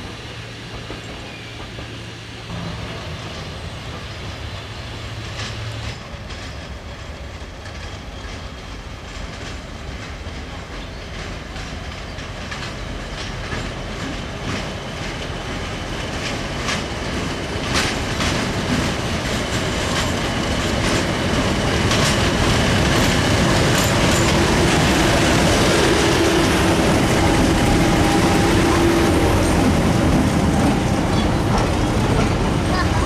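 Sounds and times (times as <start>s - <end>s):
diesel locomotive engine passing: 0.0s - 33.0s
train coaches rolling by: 0.0s - 33.0s
train wheels clicking over rail joints: 0.0s - 33.0s.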